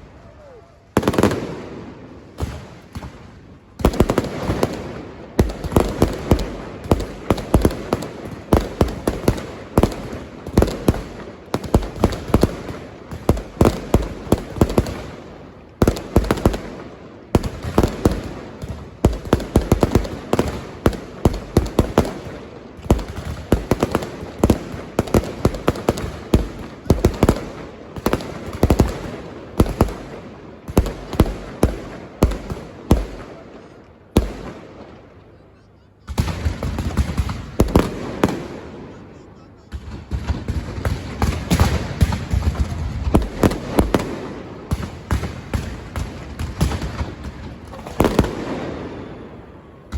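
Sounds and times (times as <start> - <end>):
firecrackers banging and crackling: 0.0 - 35.0, 36.1 - 38.9, 39.6 - 49.9.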